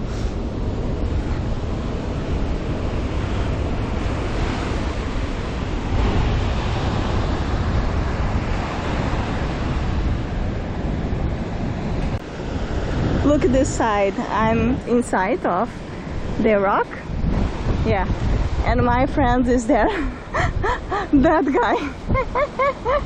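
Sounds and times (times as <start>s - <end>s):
ocean surf washing in: 0.0s - 23.0s
wind rumbling on microphone: 0.0s - 23.0s.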